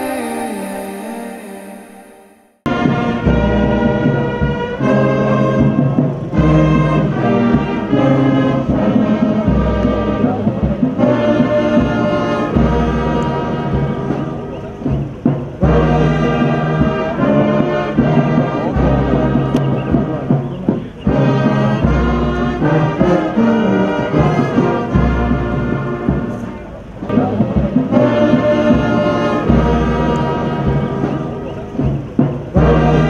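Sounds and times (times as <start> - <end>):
brass band music: 0.0 - 31.5, 32.5 - 33.0.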